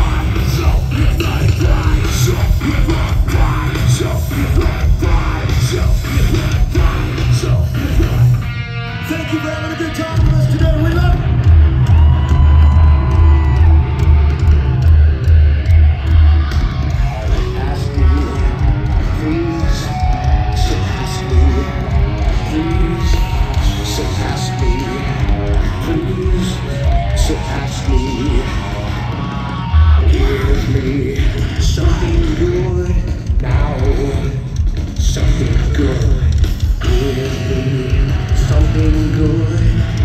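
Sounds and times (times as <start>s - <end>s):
metal band playing live: 0.0s - 40.0s
yelled vocals: 0.0s - 40.0s.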